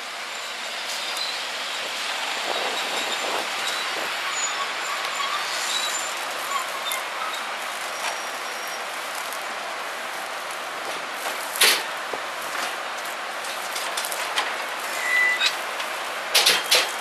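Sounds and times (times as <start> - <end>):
locomotive hiss: 0.0 - 17.0.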